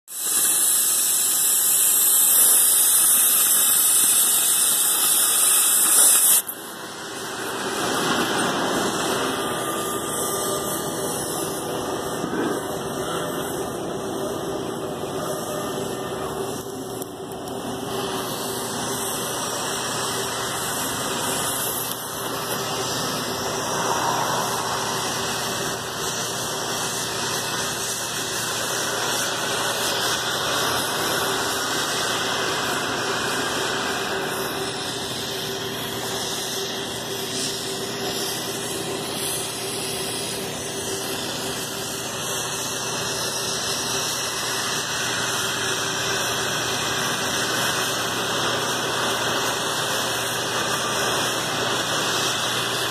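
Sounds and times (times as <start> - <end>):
cutting torch hissing: 0.0 - 52.9.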